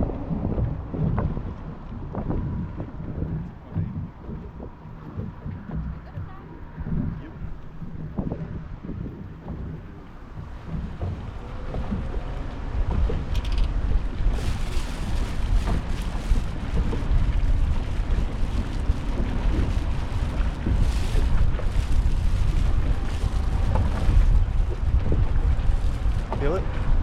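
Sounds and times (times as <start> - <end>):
boat knocks and slaps: 0.0 - 27.0
wind buffeting microphone: 0.0 - 27.0.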